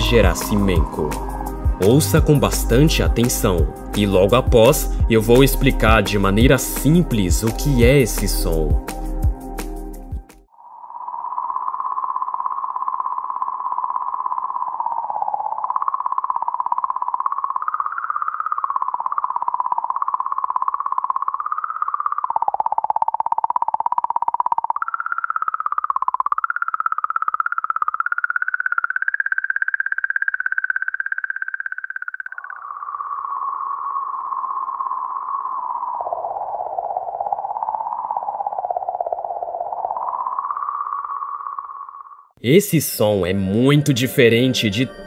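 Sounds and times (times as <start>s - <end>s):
wavering electronic tone: 0.0s - 5.2s, 10.5s - 42.4s.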